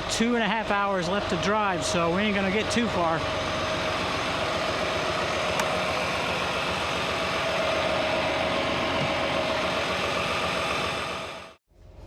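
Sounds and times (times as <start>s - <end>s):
truck diesel engine idling: 0.0s - 11.6s.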